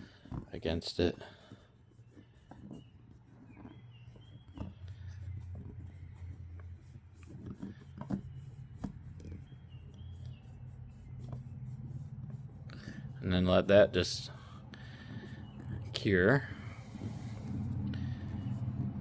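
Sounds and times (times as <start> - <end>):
hands rubbing rubber patch: 0.0 - 19.0
steady low hum: 0.0 - 19.0.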